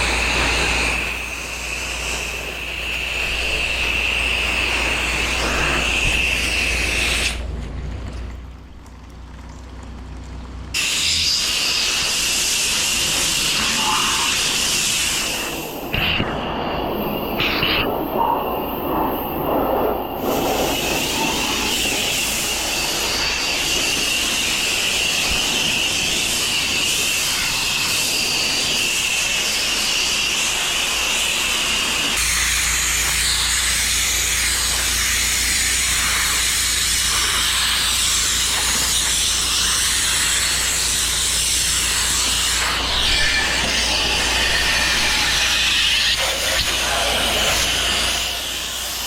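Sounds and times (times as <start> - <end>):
pressure washer spraying: 0.0 - 7.5, 10.8 - 16.2, 16.8 - 49.0.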